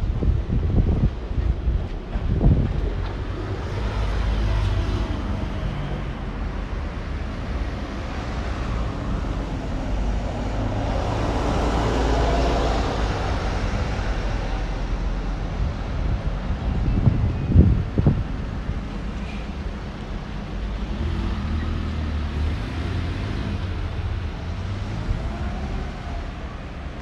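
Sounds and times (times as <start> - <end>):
vehicle rumble and motor hum: 0.0 - 27.0.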